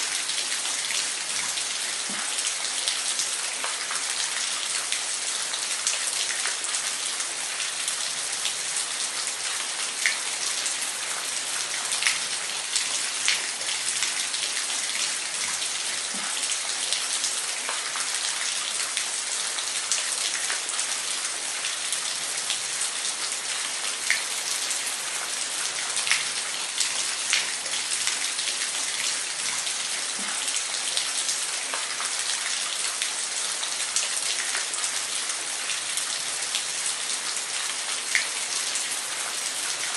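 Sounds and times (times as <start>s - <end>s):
water splashes and drips: 0.0s - 39.9s.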